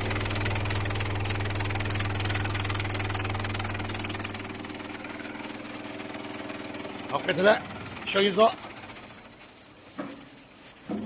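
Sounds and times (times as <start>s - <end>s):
vibration motor deep hum: 0.0s - 9.4s.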